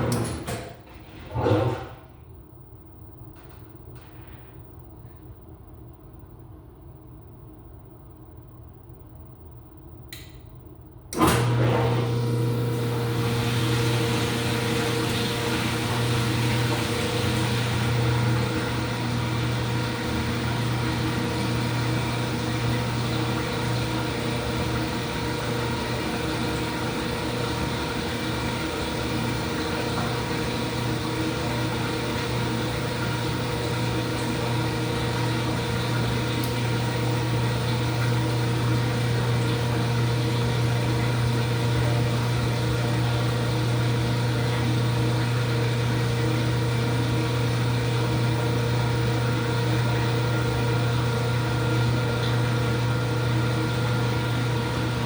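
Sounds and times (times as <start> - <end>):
washing machine motor humming: 0.0 - 2.2, 11.1 - 55.0.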